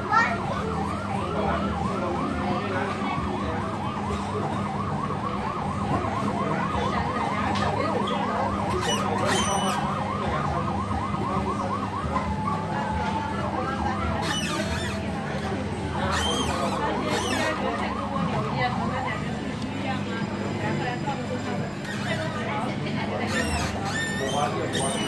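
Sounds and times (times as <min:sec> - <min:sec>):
electronic yelp siren: 0:00.0 - 0:25.0.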